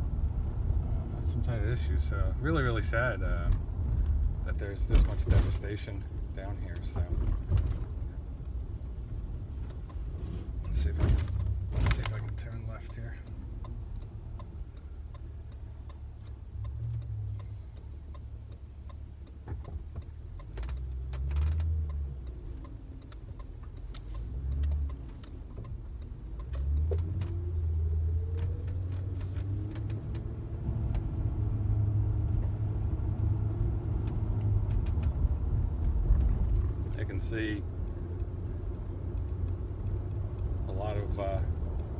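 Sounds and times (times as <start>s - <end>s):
car engine and road rumble: 0.0s - 41.9s.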